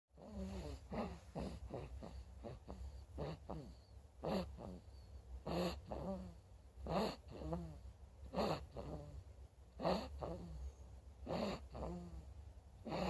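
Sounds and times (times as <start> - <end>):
breathy snores: 0.2 - 9.2, 9.8 - 13.0.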